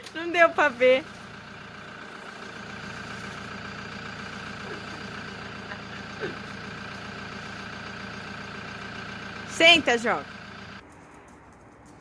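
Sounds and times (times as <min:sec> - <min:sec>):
car engine running inside cabin: 0:00.4 - 0:10.8.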